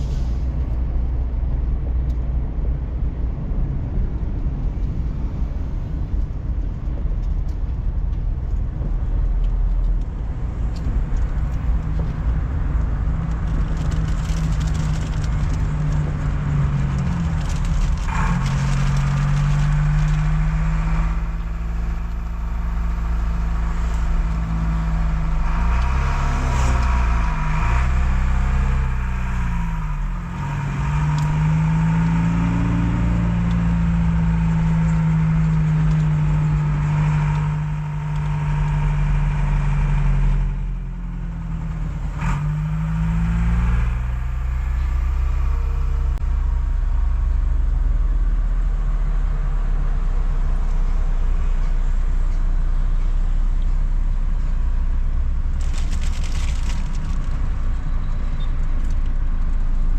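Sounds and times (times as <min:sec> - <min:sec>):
car engine hum: 0:00.0 - 0:59.9
road rumble: 0:00.0 - 0:59.9.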